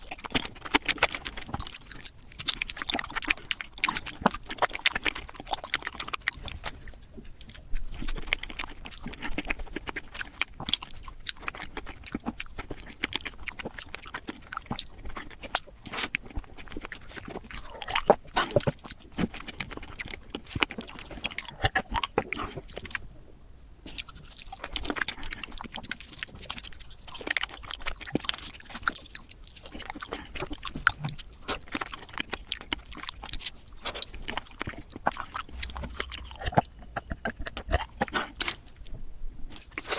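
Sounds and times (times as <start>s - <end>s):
chewing and crunching: 0.0s - 39.9s.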